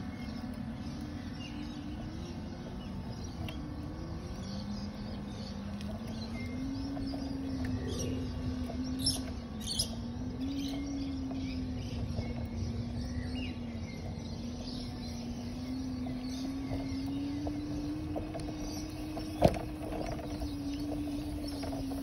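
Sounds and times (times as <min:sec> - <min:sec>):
bird chirps: 0:00.0 - 0:22.0
small vehicle motor humming: 0:00.0 - 0:22.0.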